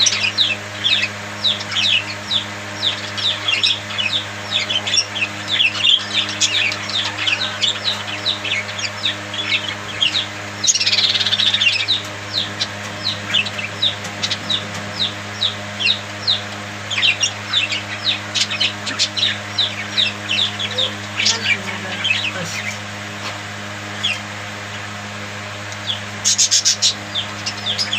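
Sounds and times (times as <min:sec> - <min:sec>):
budgerigars chirping: 0:00.0 - 0:23.4, 0:24.0 - 0:24.3, 0:25.8 - 0:27.9.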